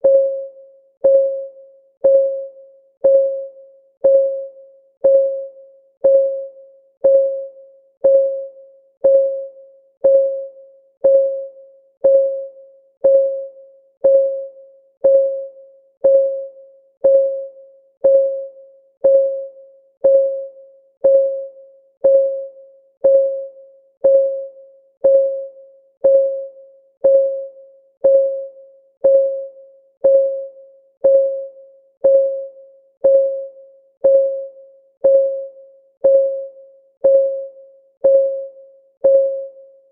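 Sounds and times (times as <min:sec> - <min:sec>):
countdown timer ticking: 0:01.0 - 0:39.6.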